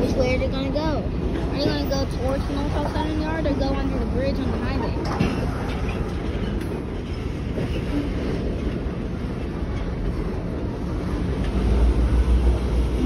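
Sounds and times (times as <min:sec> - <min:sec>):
train wheels rumbling on rails: 0:00.0 - 0:13.0
wheels clickety-clack: 0:01.2 - 0:13.0.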